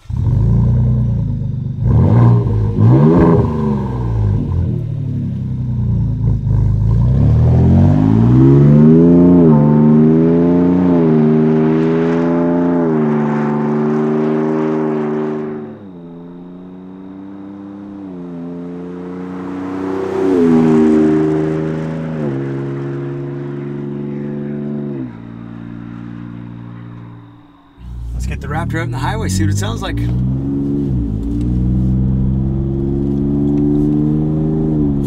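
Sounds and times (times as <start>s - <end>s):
truck accelerating through gears: 0.0s - 35.0s
truck engine idling and revving: 0.0s - 35.0s.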